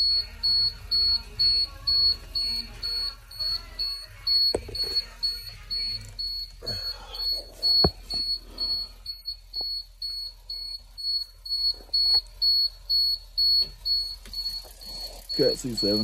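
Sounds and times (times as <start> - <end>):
dashboard warning buzzer beeping: 0.0 - 16.0.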